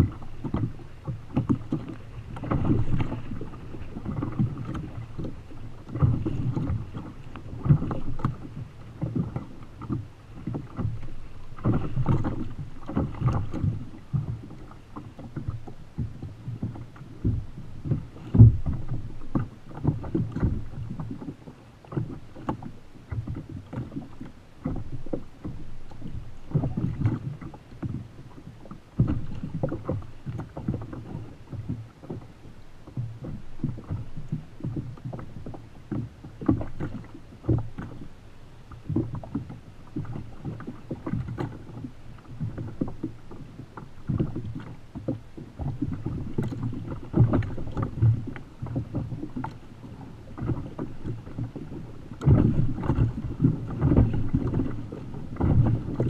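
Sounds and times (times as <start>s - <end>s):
water slapping against kayak hull: 0.0s - 56.0s.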